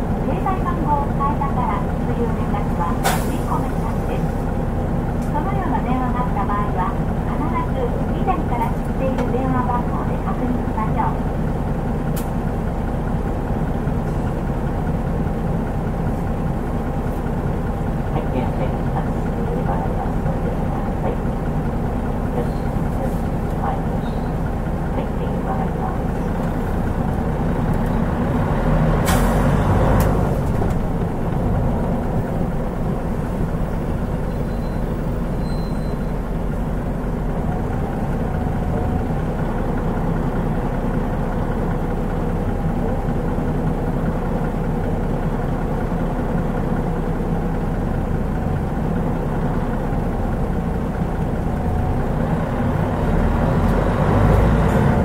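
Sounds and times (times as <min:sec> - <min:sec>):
diesel bus engine drone: 0:00.0 - 0:55.0.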